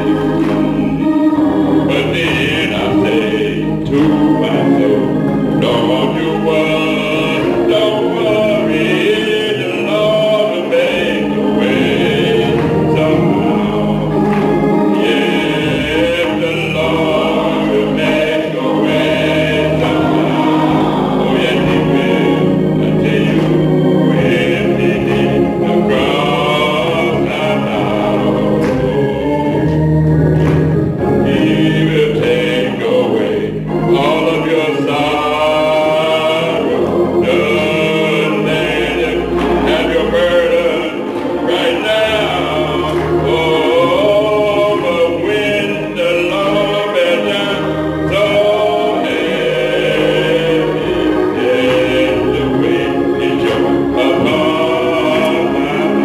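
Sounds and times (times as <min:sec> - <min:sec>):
choir singing gospel music: 0:00.0 - 0:56.0
low musical accompaniment: 0:00.0 - 0:56.0.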